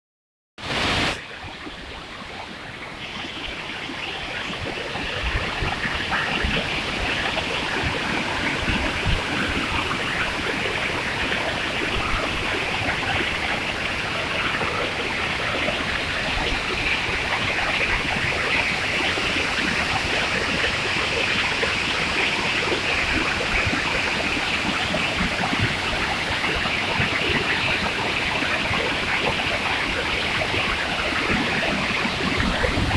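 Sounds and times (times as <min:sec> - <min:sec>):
waterfall rushing: 0:03.0 - 0:32.9.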